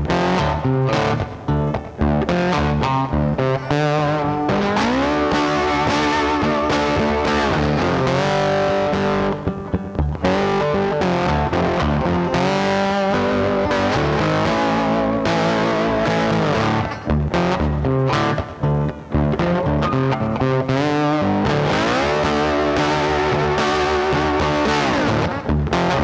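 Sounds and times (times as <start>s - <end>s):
bass line: 0.0s - 26.0s
distorted electric guitar: 0.0s - 26.0s.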